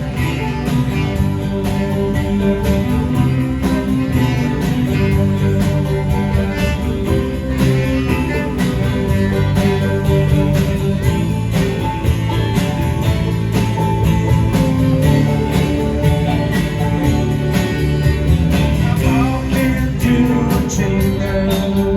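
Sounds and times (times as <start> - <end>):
guitar: 0.0 - 21.9
live band playing: 0.0 - 21.9
steady drum beat: 0.0 - 21.9.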